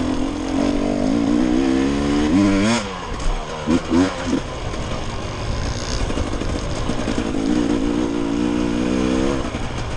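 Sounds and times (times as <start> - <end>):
dirt bike engine running: 0.0 - 9.9.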